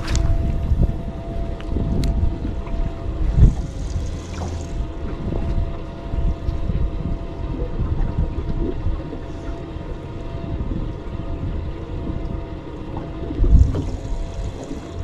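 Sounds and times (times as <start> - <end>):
faint steady whine: 0.0 - 15.0
water lapping against boat hull: 0.0 - 15.0
wind buffeting microphone: 0.0 - 15.0.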